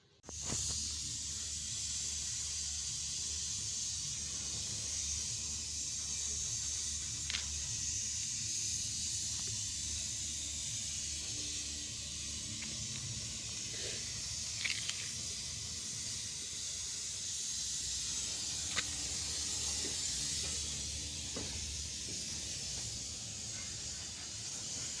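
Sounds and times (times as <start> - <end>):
torch flame hissing: 0.2 - 25.0.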